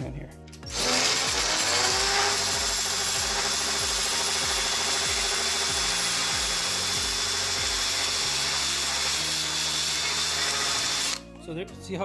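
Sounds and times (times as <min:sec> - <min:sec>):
drill wire brush scrubbing metal: 0:00.7 - 0:11.2.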